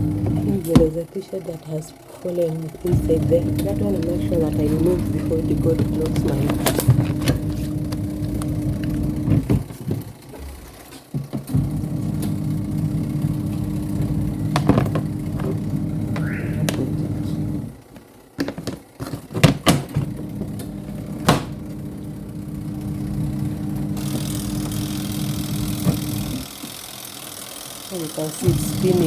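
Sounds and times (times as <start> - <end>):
spin-dryer motor humming: 0.0 - 29.0.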